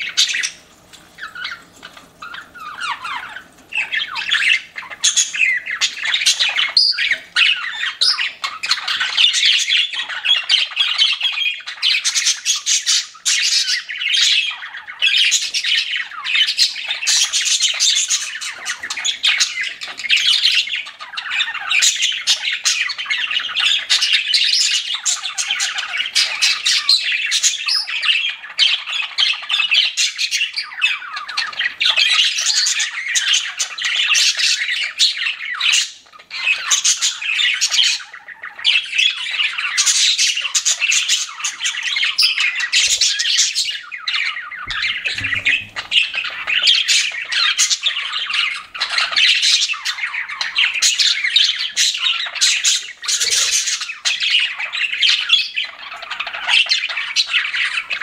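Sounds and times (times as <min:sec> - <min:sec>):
budgerigars chirping and chattering: 0:00.0 - 0:58.0.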